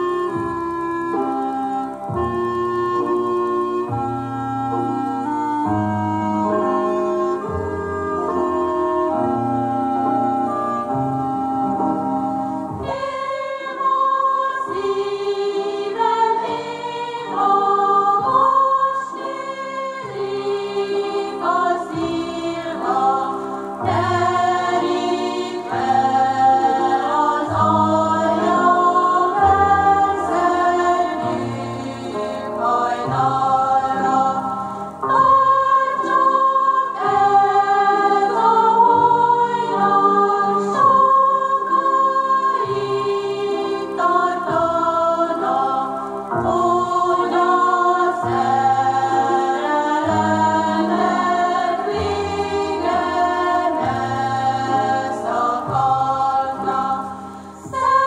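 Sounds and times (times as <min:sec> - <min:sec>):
voices singing together: 0:00.0 - 0:58.0.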